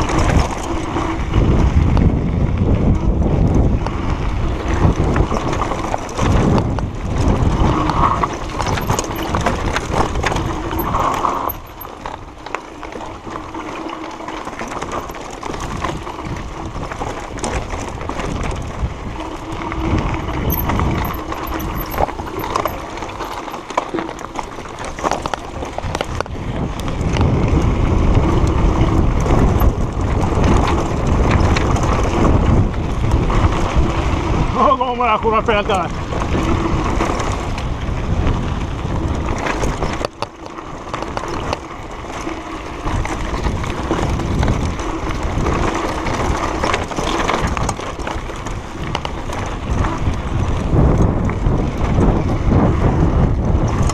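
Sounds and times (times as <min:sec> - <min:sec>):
bike tyres clattering over stones: 0:00.0 - 0:34.5, 0:35.7 - 0:53.9
wind rumbling on microphone: 0:00.0 - 0:53.9.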